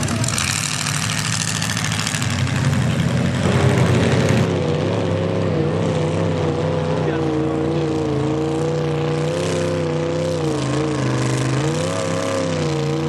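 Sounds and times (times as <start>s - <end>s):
truck engine working hard: 0.0s - 13.0s.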